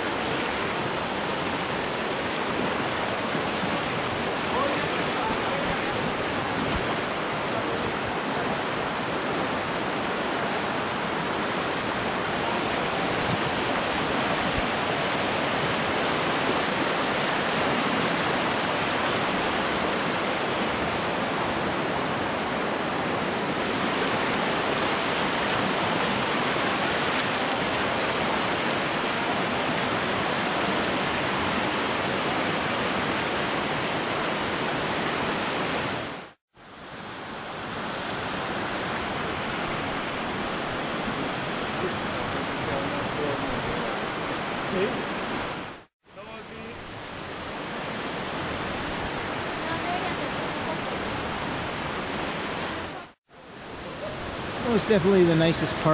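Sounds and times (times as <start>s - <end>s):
river rushing over stones: 0.0s - 55.9s.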